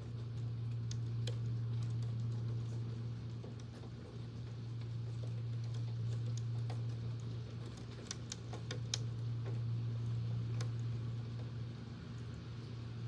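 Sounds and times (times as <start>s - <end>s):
fan humming: 0.0s - 13.0s
rain ticking on hard surface: 0.0s - 13.0s.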